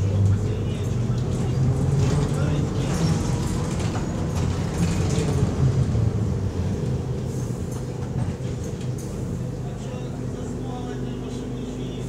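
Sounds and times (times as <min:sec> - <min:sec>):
trolleybus rumble and hum: 0:00.0 - 0:12.0.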